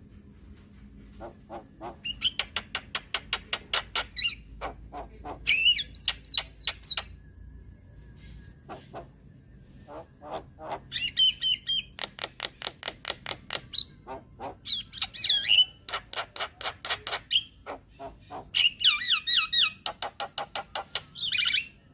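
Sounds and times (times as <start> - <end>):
bird harsh chattering: 1.5 - 7.1, 8.7 - 9.1, 9.9 - 21.7.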